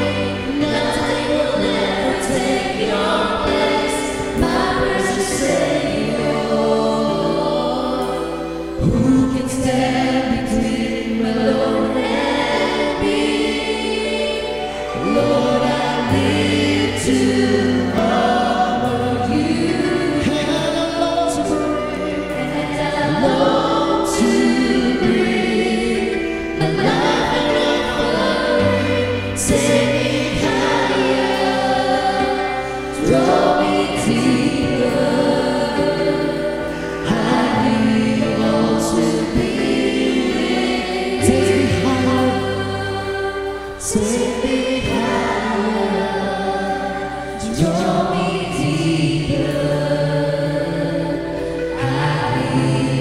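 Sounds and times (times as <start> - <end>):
electronic keyboard: 0.0 - 53.0
group singing in harmony: 0.0 - 53.0
violin: 0.0 - 53.0.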